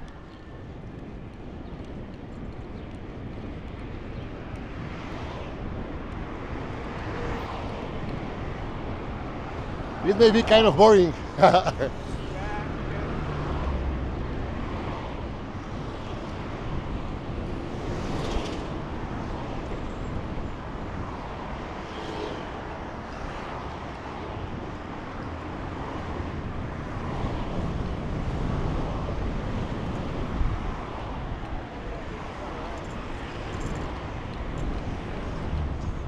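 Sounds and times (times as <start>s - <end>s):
low rumble of passing cars: 0.0s - 36.0s
vehicles swishing by: 0.3s - 36.0s.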